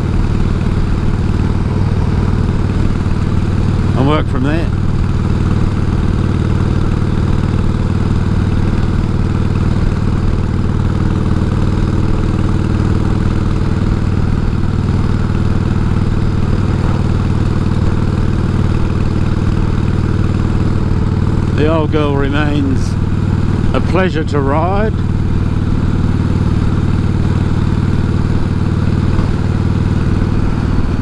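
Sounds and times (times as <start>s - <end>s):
motorcycle engine cruising: 0.0s - 31.0s
road and wind noise: 0.0s - 31.0s.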